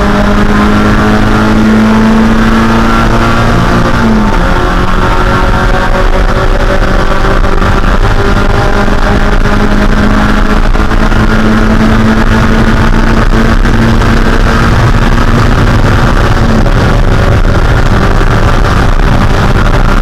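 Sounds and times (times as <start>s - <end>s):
car engine at high rpm: 0.0s - 20.0s
wind and road noise: 0.0s - 20.0s.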